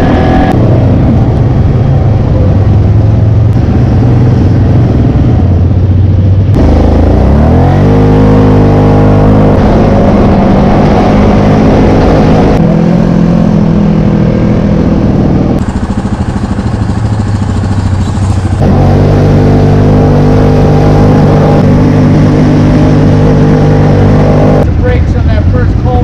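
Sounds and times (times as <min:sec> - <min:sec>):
quad bike engine running: 0:00.0 - 0:26.0.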